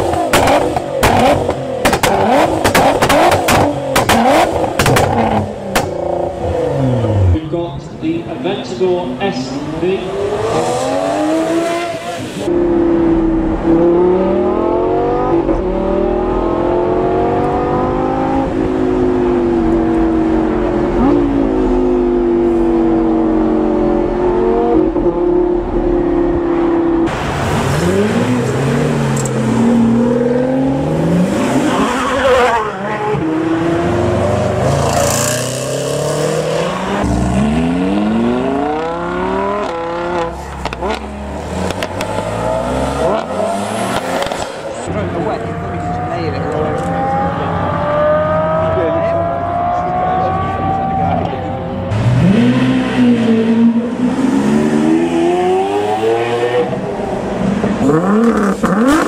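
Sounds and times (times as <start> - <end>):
supercar engine revving: 0.0 - 7.5, 9.1 - 59.0.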